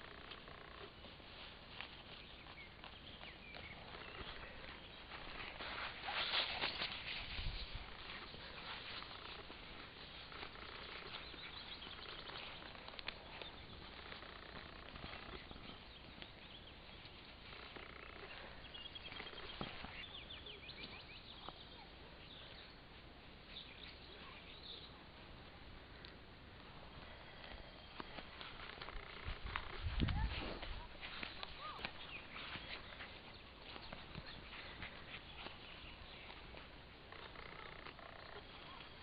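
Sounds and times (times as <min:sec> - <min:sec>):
soft clicks and rustles: 0:00.0 - 0:20.1, 0:23.5 - 0:39.0
songbirds chirping: 0:00.0 - 0:39.0.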